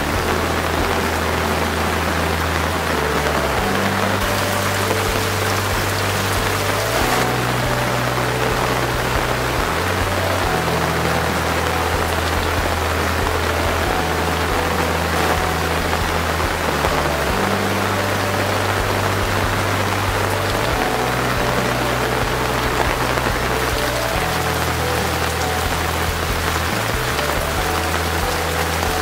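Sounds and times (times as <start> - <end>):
heavy rain falling: 0.0 - 29.0
soft background music: 0.0 - 29.0.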